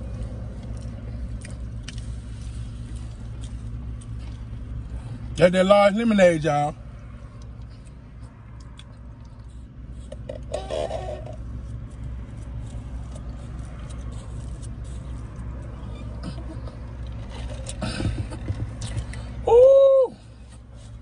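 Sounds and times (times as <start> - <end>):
car idling hum: 0.0 - 21.0.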